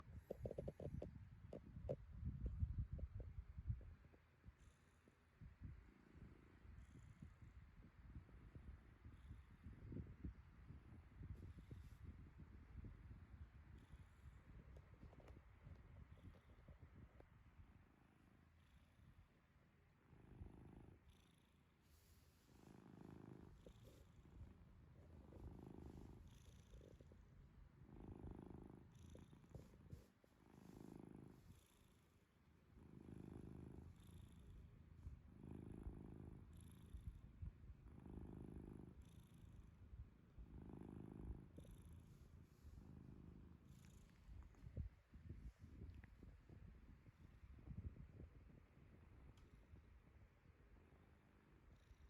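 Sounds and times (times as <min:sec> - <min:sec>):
cat snoring faintly: 0:00.0 - 0:52.0.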